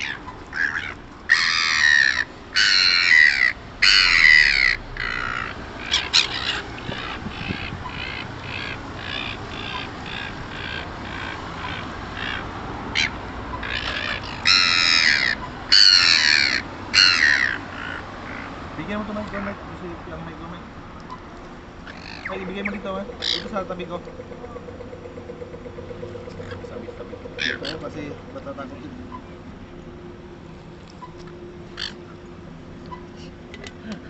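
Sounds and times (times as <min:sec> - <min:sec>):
seagulls calling: 0:00.0 - 0:19.6, 0:20.9 - 0:34.0.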